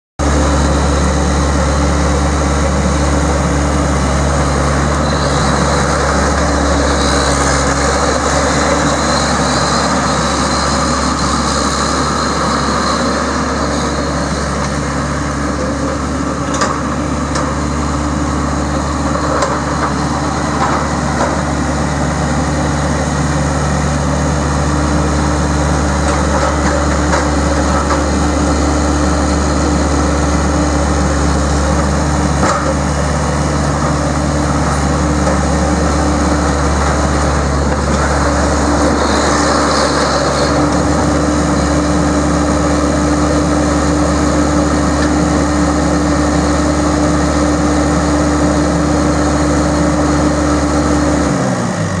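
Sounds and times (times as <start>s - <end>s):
diesel engine running: 0.2s - 52.0s.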